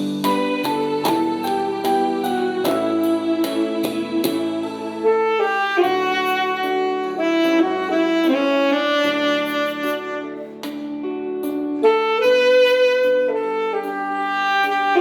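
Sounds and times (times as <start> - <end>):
keyboard backing track: 0.0 - 15.0
saxophone slow melody: 0.0 - 15.0.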